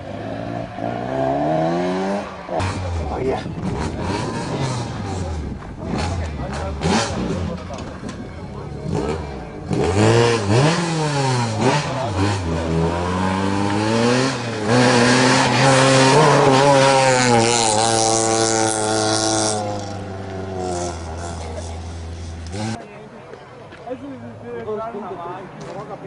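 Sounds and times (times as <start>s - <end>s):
rally car engine revving: 0.0s - 7.9s, 8.8s - 22.8s.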